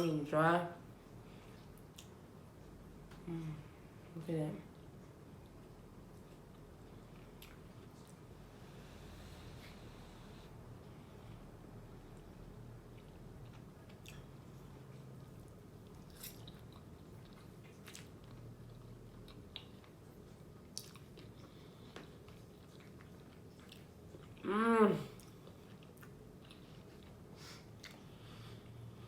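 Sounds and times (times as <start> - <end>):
chewing and wet mouth sounds: 1.0 - 3.6, 4.6 - 8.5, 11.3 - 24.5, 25.1 - 29.0.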